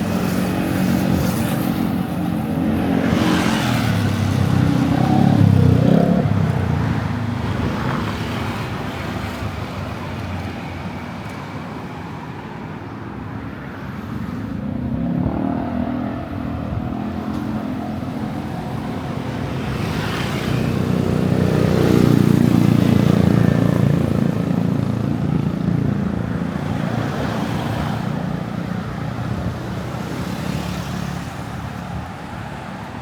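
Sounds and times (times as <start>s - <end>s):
vehicle engines passing: 0.0s - 33.0s.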